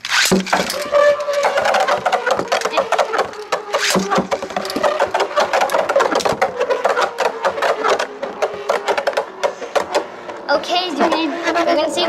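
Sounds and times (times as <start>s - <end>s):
spinning tops clicking and rattling: 0.0s - 10.5s
spinning hum: 0.0s - 12.0s.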